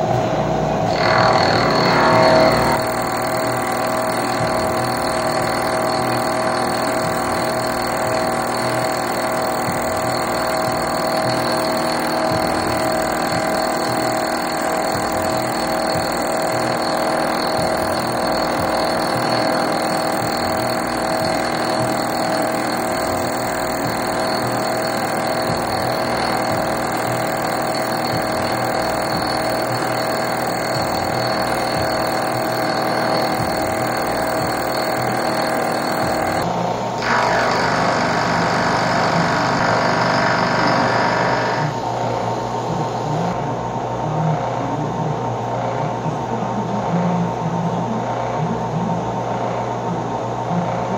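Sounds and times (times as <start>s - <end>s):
milling machine whine: 0.0s - 43.8s.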